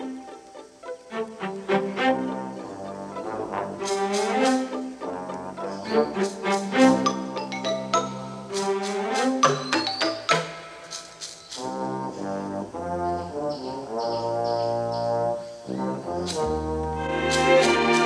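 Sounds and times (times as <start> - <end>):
brass film score: 0.0 - 10.9, 11.6 - 18.0.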